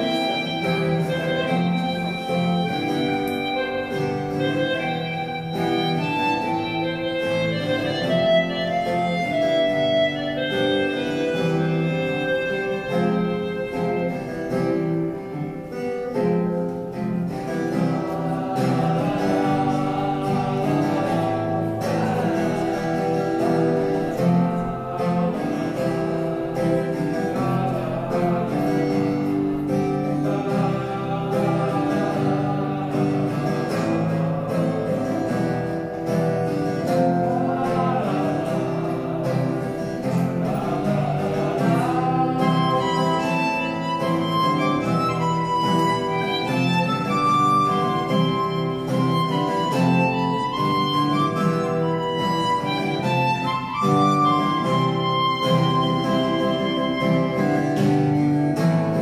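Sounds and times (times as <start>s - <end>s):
acoustic guitar strumming chords: 0.0s - 59.0s
harmonica playing melody: 0.0s - 59.0s
man singing: 0.0s - 59.0s.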